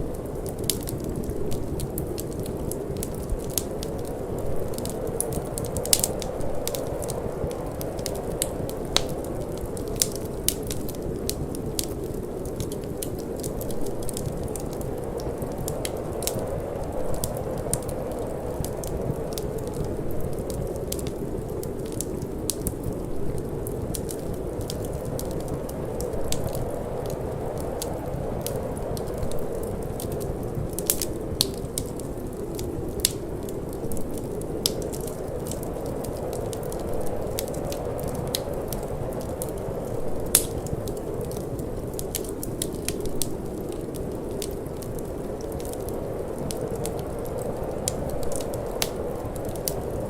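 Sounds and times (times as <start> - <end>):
low rush of wind: 0.0 - 50.0
wood fire crackling and popping: 0.0 - 50.0.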